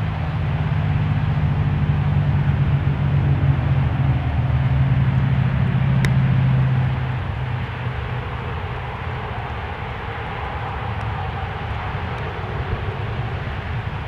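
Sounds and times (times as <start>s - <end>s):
engine low hum: 0.0s - 14.0s.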